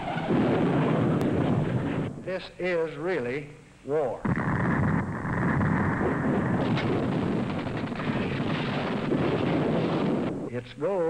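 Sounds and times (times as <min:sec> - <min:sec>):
rumbling battle noise: 0:00.0 - 0:02.9, 0:04.2 - 0:11.0.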